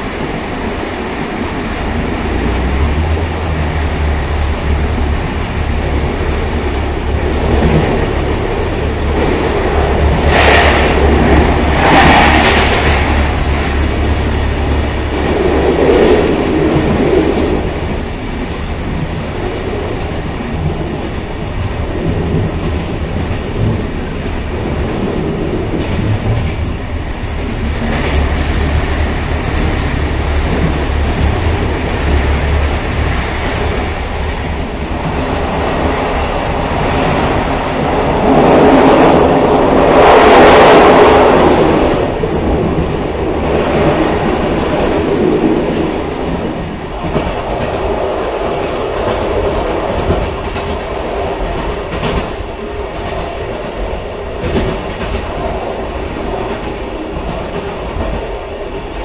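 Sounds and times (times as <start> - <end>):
railcar wheels rumbling on rail: 0.0 - 59.0.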